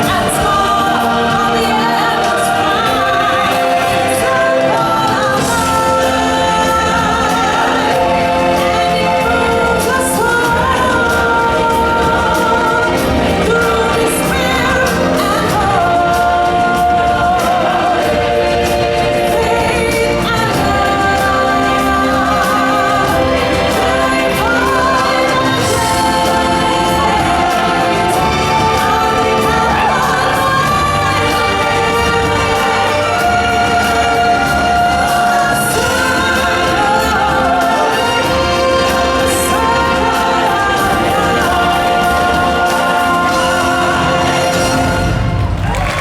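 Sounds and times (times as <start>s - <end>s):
full band accompaniment: 0.0s - 46.0s
group of singers holding long notes: 0.0s - 46.0s.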